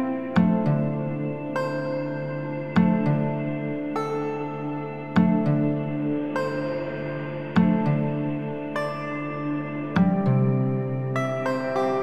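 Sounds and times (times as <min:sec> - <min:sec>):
ambient music sustained tones: 0:00.0 - 0:12.0.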